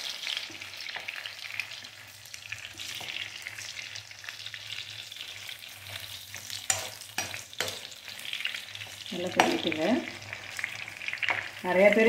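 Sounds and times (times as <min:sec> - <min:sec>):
food sizzling in hot oil: 0:00.0 - 0:12.0
spatula stirring in a pan: 0:00.0 - 0:12.0.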